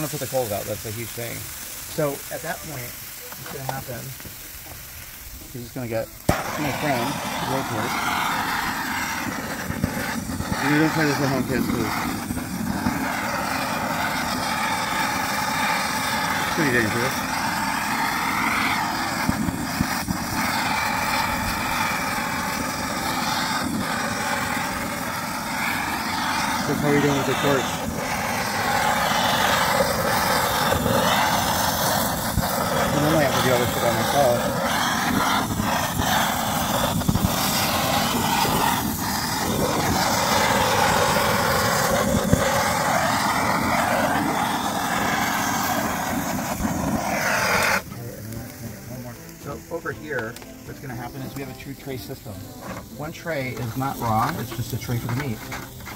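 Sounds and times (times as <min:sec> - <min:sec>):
blowtorch flame rushing: 0:00.0 - 0:55.9.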